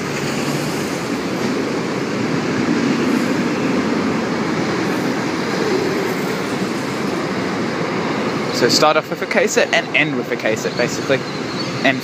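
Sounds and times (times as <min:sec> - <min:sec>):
freight train rolling on rails: 0:00.0 - 0:12.0.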